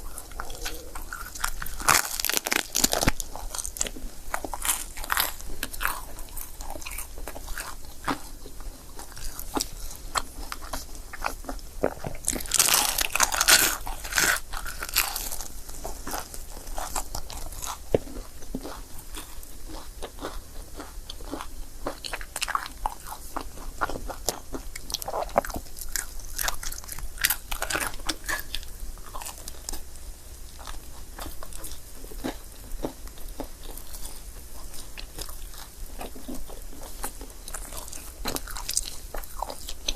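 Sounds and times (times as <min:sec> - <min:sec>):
biting and chewing crepe: 0:00.0 - 0:39.9.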